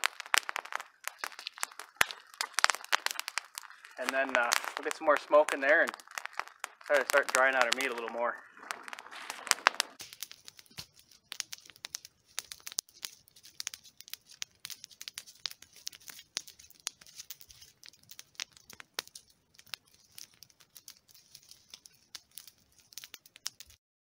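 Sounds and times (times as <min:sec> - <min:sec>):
campfire crackling and popping: 0:00.0 - 0:23.8.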